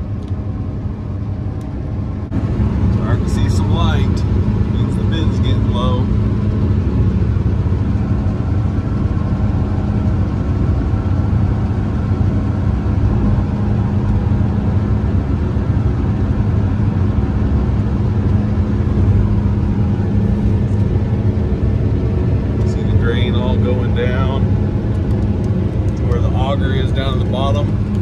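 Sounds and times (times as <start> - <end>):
combine engine and machinery drone: 0.0 - 28.0.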